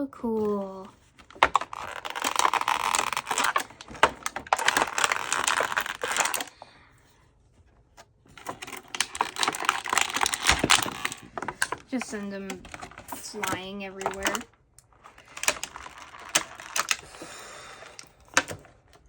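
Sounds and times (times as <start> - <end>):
packaging crinkling and clicking: 1.0 - 6.7, 8.0 - 19.0.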